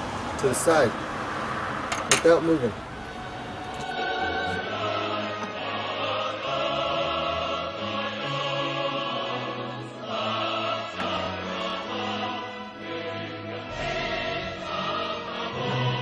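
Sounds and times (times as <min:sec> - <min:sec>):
choir-like voices holding notes: 0:00.0 - 0:16.0.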